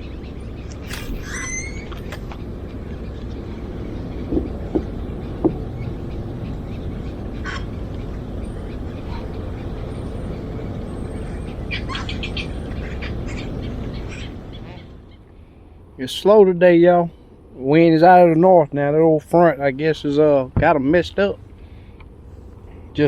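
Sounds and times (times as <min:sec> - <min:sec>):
birds chirping: 0:00.0 - 0:23.0
wind rumble: 0:00.0 - 0:23.0.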